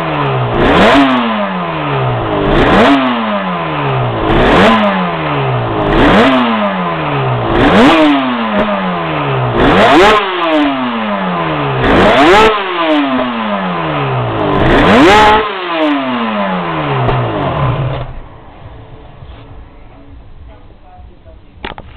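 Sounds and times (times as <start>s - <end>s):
two-stroke engine revving: 0.0s - 18.3s.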